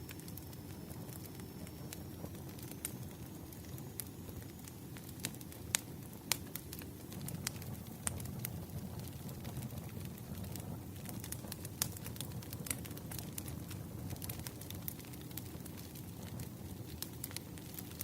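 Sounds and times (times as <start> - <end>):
firewood crackling and popping: 0.0 - 18.0
low rumble of flames: 0.0 - 18.0.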